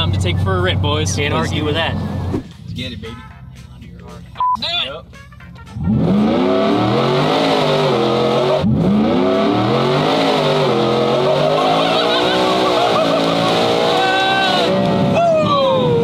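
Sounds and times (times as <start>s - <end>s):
truck engine revving at full throttle: 0.0s - 2.7s, 5.2s - 16.0s.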